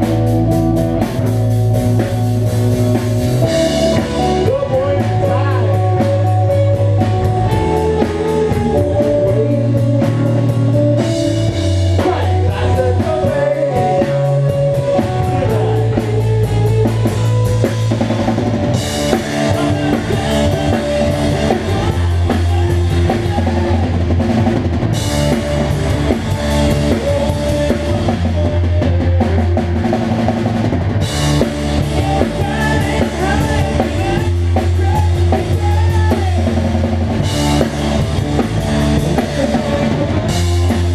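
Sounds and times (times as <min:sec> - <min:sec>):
drum kit: 0:00.0 - 0:40.9
electric bass: 0:00.0 - 0:40.9
electric guitar: 0:00.0 - 0:40.9.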